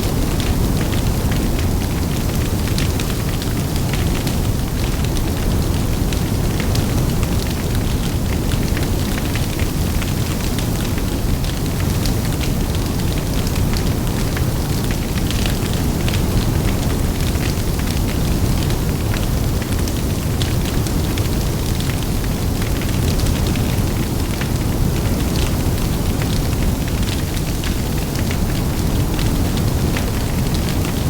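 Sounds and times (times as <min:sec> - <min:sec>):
bonfire flames rumbling: 0:00.0 - 0:31.0.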